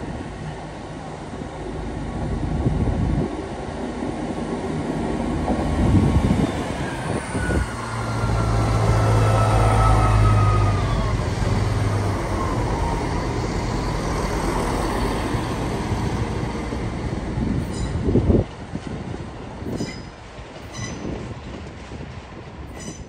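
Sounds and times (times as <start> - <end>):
train engine drone: 0.0 - 23.0
wheels rumbling on rails: 0.0 - 23.0.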